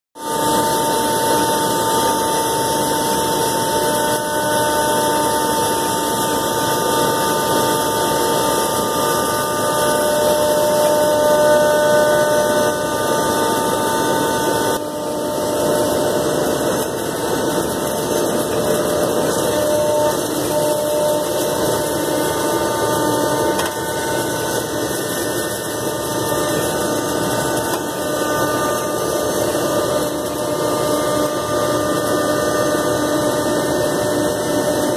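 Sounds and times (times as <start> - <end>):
cnc router spindle whine: 0.2 - 34.9.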